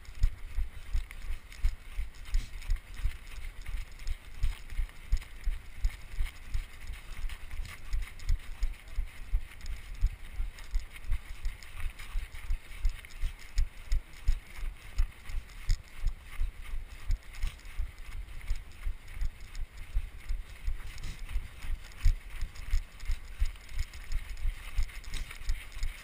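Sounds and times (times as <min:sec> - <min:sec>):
footsteps running on snow: 0:00.0 - 0:26.0.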